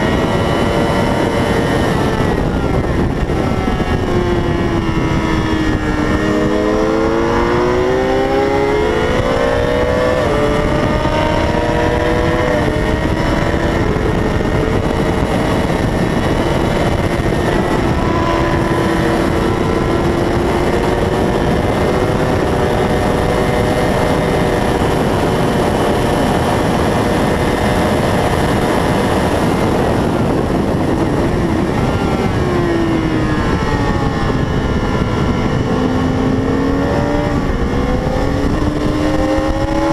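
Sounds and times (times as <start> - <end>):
racing motorcycle engine at full throttle: 0.0 - 39.9
wind noise: 0.0 - 39.9.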